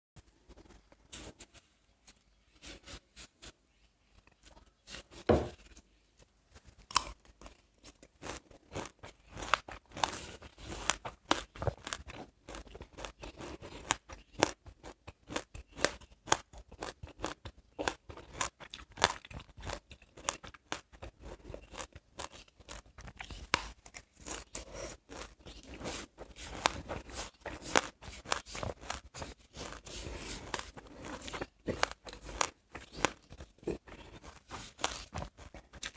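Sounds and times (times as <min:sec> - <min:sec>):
chewing seeds crunching: 0:06.8 - 0:35.9.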